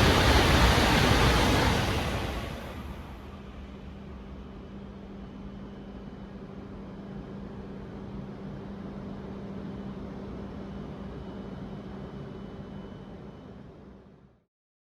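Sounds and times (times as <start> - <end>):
steady low hum: 0.0 - 14.1.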